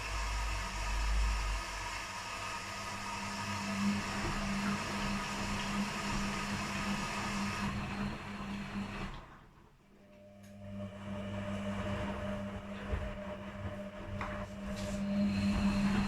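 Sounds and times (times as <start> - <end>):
drum and water noise: 0.0 - 9.1, 11.0 - 16.0
washing machine motor hum: 0.0 - 16.0.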